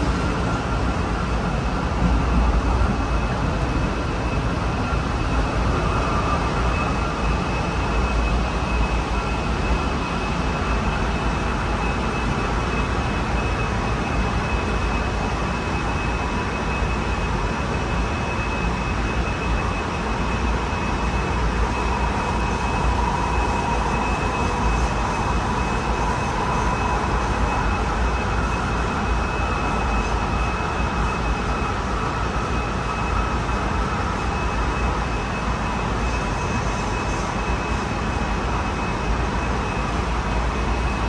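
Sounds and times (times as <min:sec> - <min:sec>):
faint motor whine: 0:00.0 - 0:41.0.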